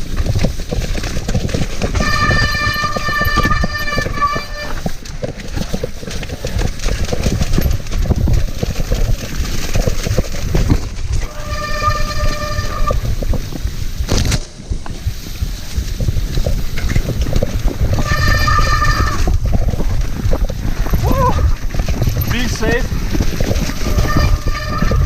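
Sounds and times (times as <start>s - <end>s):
mountain bike rattling over trail: 0.0s - 25.0s
wind on microphone: 0.0s - 25.0s.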